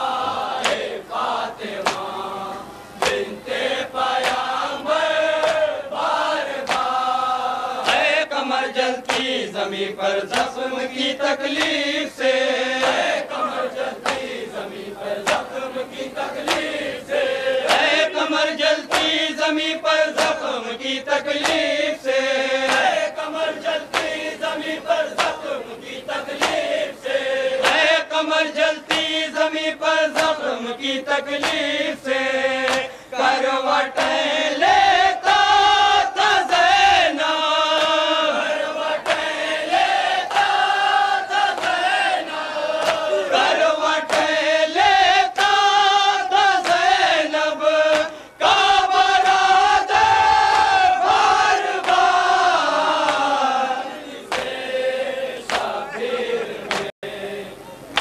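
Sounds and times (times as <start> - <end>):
men chanting in unison: 0.0 - 57.8.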